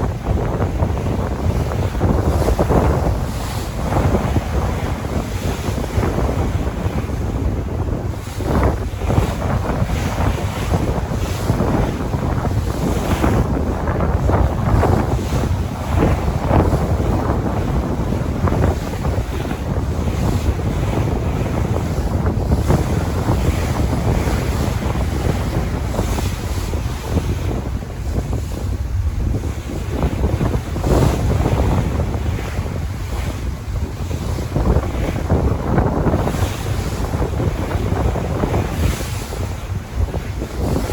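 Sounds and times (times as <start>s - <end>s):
sea waves washing on shore: 0.0s - 40.9s
wind buffeting the microphone: 0.0s - 40.9s.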